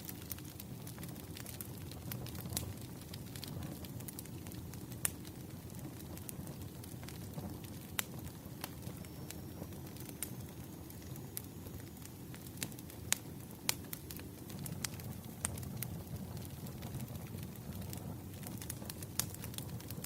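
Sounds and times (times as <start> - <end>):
low rumble of flames: 0.0 - 20.0
wood fire crackling: 0.0 - 20.0.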